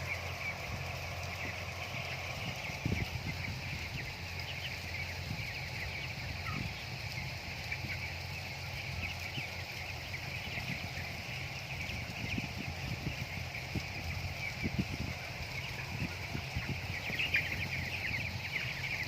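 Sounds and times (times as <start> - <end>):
chickens cheeping: 0.0 - 19.0.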